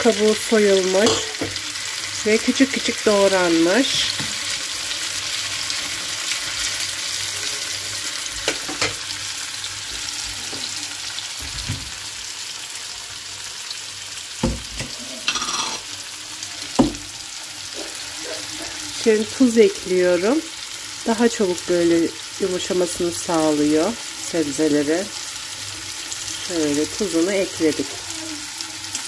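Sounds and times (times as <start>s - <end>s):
vegetables sizzling in a pan: 0.0s - 29.0s.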